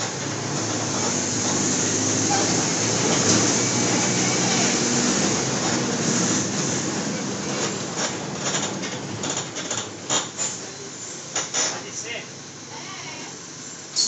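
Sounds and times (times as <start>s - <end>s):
bus diesel engine running: 0.0s - 14.0s
road noise: 0.0s - 14.0s.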